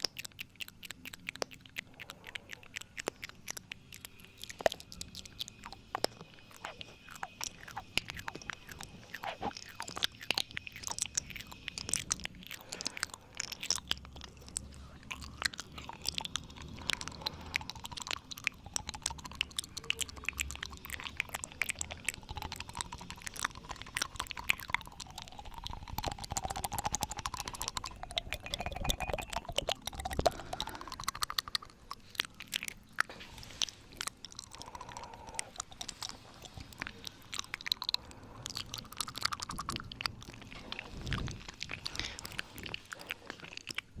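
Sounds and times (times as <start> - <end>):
lips and tongue clicking and smacking: 0.0 - 44.0.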